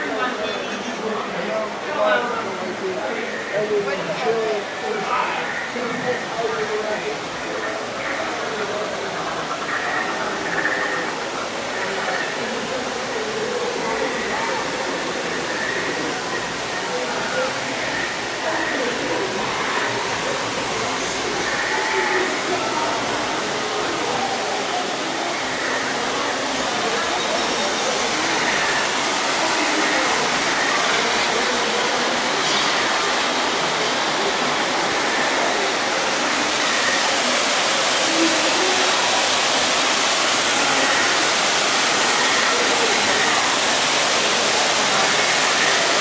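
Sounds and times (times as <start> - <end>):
crowd chatter: 0.0 - 46.0
waterfall rushing: 0.0 - 46.0.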